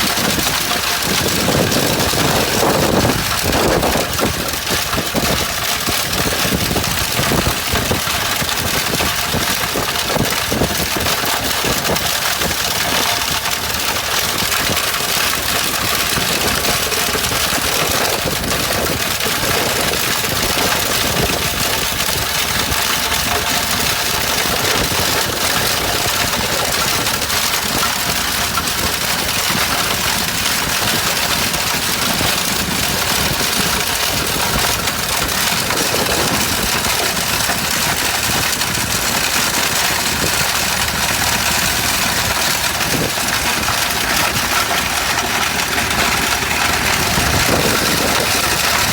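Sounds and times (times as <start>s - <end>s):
stone crushing machine running: 0.0s - 48.9s.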